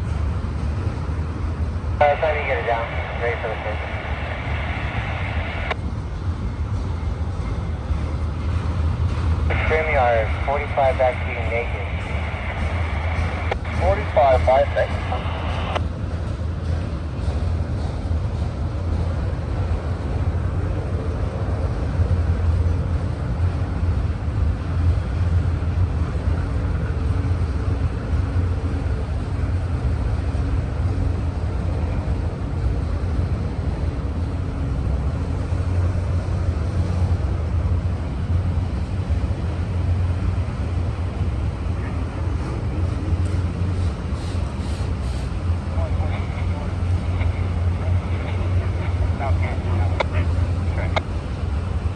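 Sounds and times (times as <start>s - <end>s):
faint steady drone: 0.0s - 51.9s
freight train rumbling past: 0.0s - 51.9s.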